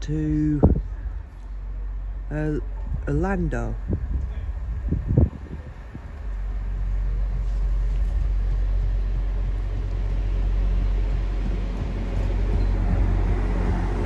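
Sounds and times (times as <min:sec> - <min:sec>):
train diesel engines humming: 0:00.0 - 0:14.0.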